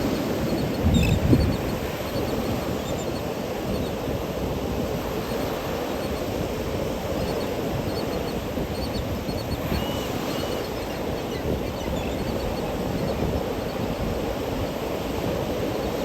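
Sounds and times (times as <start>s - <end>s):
ocean surf on beach: 0.0s - 16.0s.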